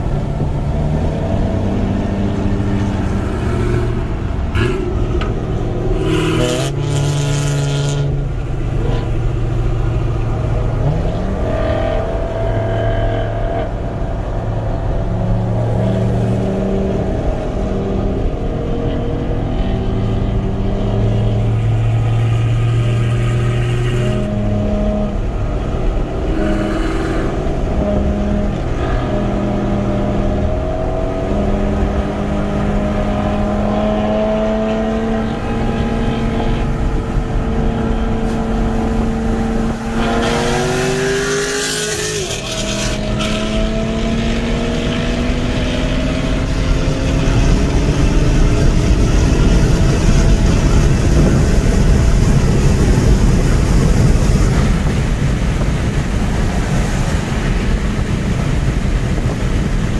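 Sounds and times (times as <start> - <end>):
car engine accelerating hard: 0.0 - 59.9
road and wind noise: 0.0 - 59.9.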